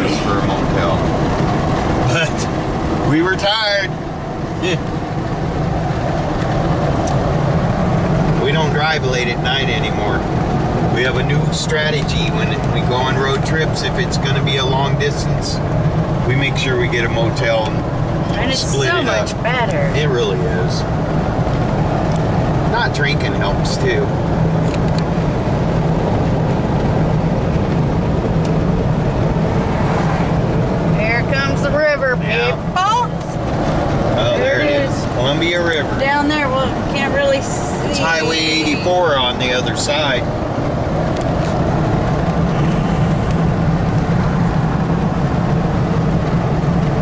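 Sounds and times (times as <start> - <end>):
road noise inside cab: 0.0 - 47.0
truck engine drone: 0.0 - 47.0.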